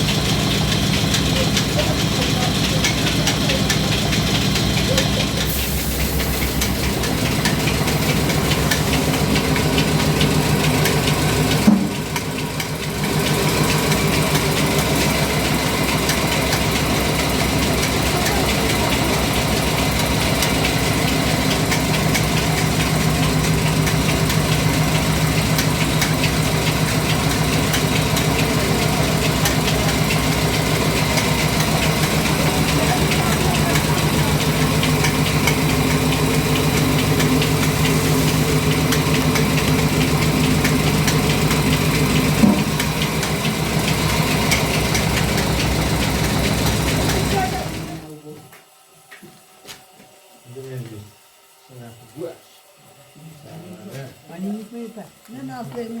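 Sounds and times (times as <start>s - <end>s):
engine running: 0.0s - 48.4s.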